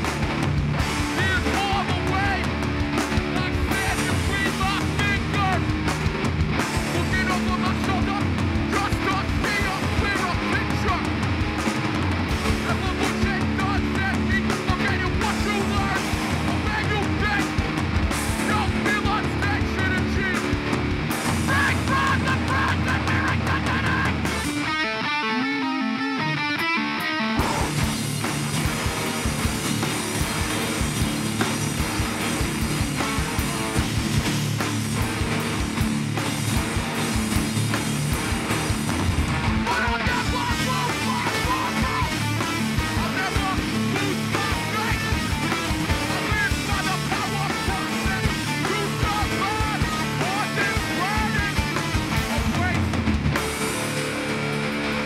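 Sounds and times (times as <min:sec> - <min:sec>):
fast pounding drums: 0:00.0 - 0:24.8, 0:27.4 - 0:55.0
guitar notes bending: 0:00.0 - 0:55.0
hardcore band playing live: 0:00.0 - 0:55.0.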